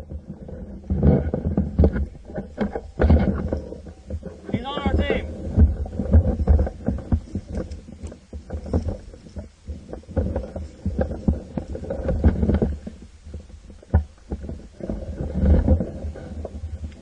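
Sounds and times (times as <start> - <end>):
muffled handling thumps and rustling: 0.0 - 17.0.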